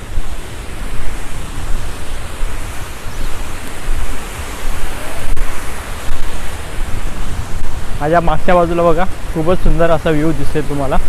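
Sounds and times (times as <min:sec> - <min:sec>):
river water pouring over a dam: 0:00.0 - 0:11.0
wind buffeting microphone: 0:00.0 - 0:11.0.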